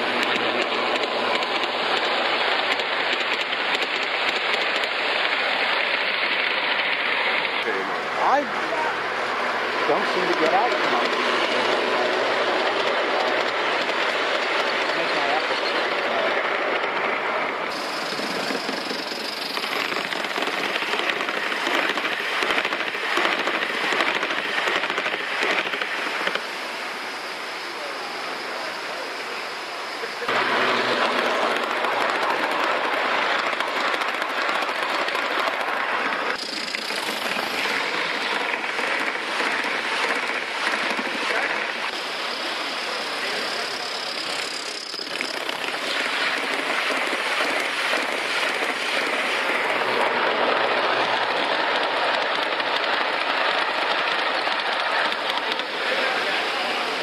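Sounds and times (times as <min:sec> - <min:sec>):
model train wheels clattering: 0:00.0 - 0:07.7, 0:09.9 - 0:26.4, 0:30.8 - 0:42.0, 0:43.2 - 0:56.2
steady hissing: 0:00.0 - 0:57.0.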